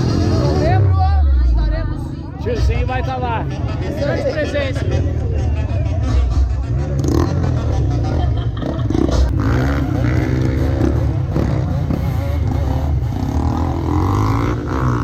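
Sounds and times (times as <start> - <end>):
indistinct voices: 0.0 - 15.0
motorcycle engines rumbling: 0.0 - 15.0.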